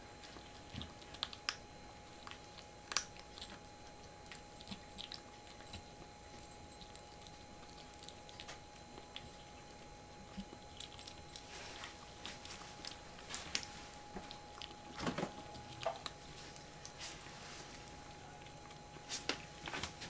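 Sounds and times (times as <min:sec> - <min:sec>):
kitten chewing food: 0:00.0 - 0:20.0.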